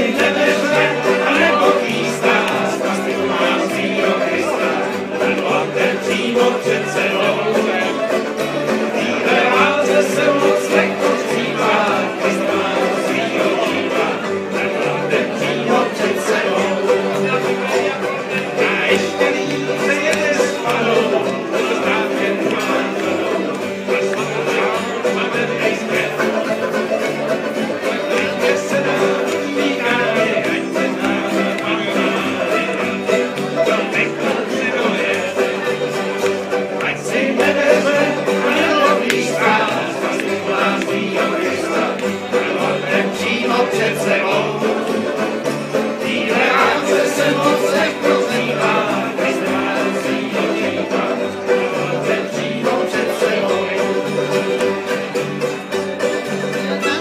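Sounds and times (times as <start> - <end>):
banjo picking: 0.0 - 57.0
strummed acoustic guitar: 0.0 - 57.0.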